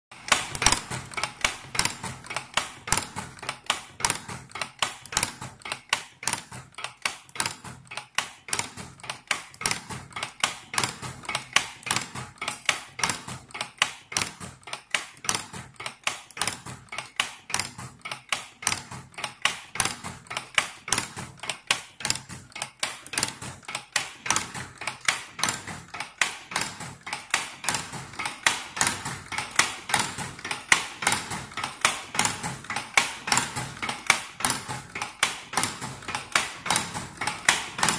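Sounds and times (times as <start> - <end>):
machine tooling clacking: 0.1 - 37.9.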